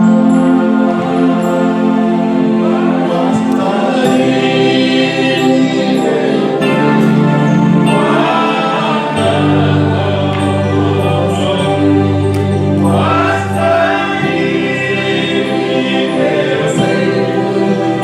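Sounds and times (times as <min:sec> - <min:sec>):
choir singing gospel music: 0:00.0 - 0:18.0.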